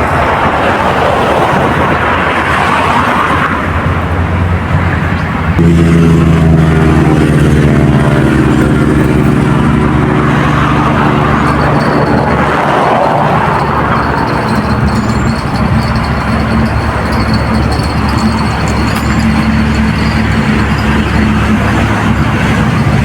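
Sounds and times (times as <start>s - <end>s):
vehicle engines droning: 0.0s - 23.0s
vehicle passing: 0.0s - 23.0s.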